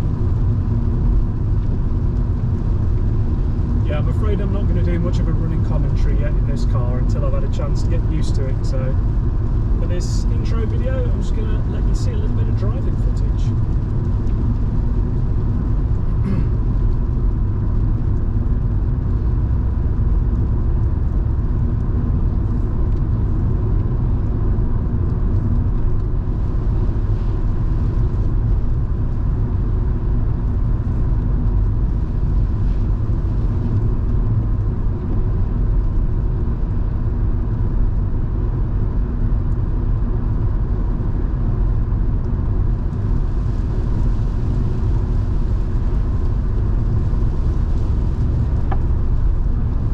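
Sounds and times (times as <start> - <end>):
car engine droning: 0.0 - 49.9.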